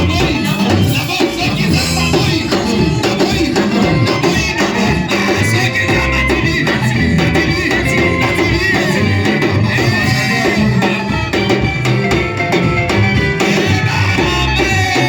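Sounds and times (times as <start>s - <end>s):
drums: 0.0s - 15.0s
guitar: 0.0s - 15.0s
person singing: 0.0s - 15.0s.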